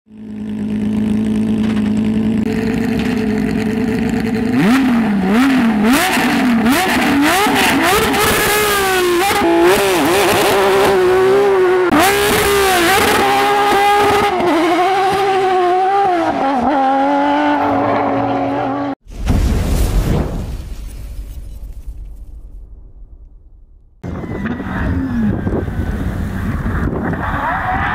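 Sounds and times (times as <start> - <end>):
car engine idling and revving: 0.1 - 19.0, 21.9 - 27.9.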